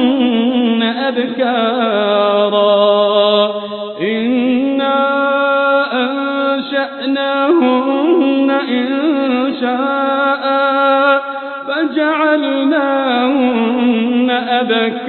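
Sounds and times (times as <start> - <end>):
man reciting in melodic chant: 0.0 - 15.0.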